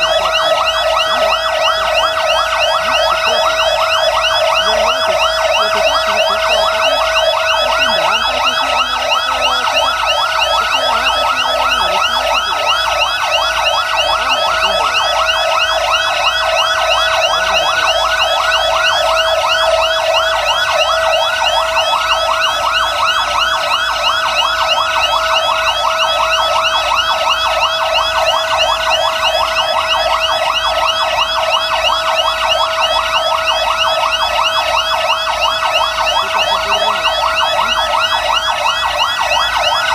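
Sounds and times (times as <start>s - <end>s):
fire truck sirens yelping: 0.0s - 39.9s
siren steady tone: 0.0s - 39.9s.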